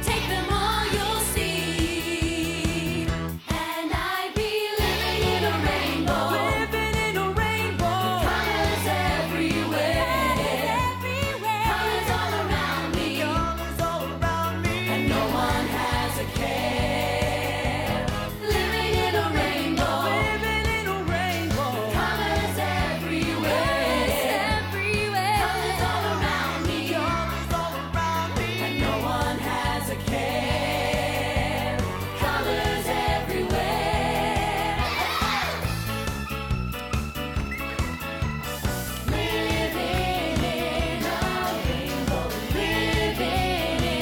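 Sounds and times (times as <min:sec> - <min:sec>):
repeating bass line and beat: 0:00.0 - 0:03.4, 0:04.8 - 0:44.0
group of voices singing: 0:00.0 - 0:35.9, 0:38.9 - 0:44.0.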